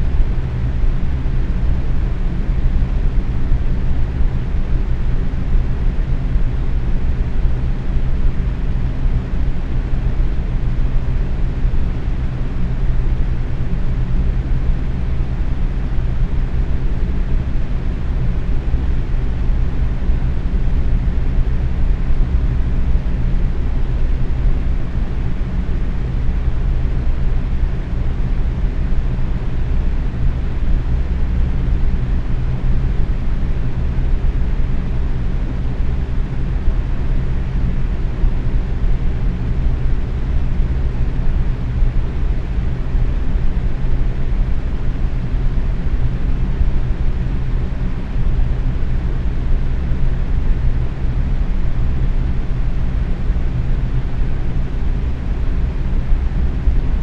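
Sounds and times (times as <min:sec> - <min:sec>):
faint motor hum: 0:00.0 - 0:57.0.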